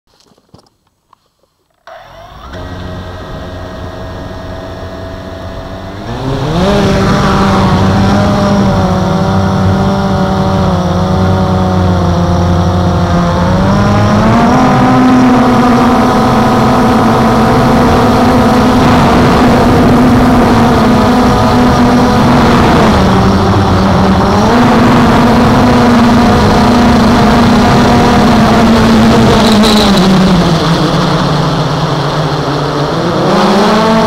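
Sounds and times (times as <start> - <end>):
quadcopter motors whining: 1.7 - 34.0.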